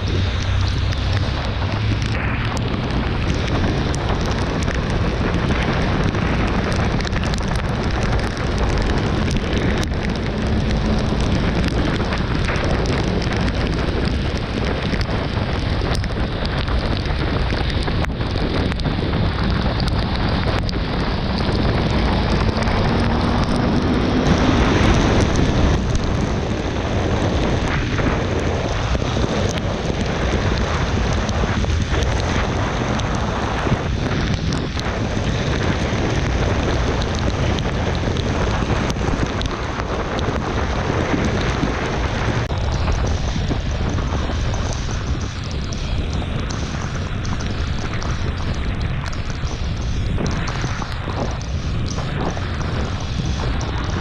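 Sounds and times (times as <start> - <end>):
rain spatter: 0.0 - 54.0
wind rushing over microphone: 0.0 - 54.0.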